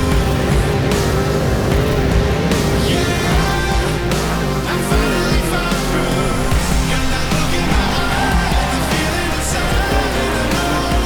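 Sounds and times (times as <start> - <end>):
loud rock music with drum beat: 0.0 - 11.0.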